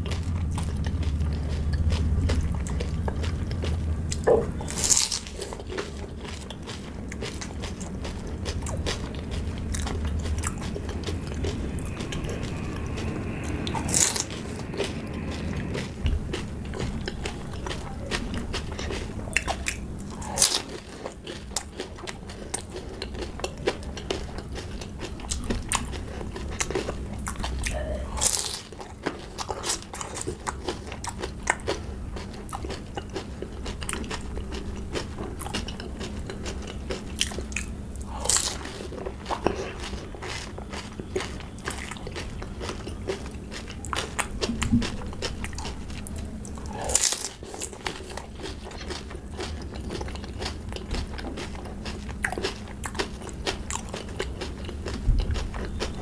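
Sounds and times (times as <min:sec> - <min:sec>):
crunching crisp shells: 0:00.0 - 0:56.0.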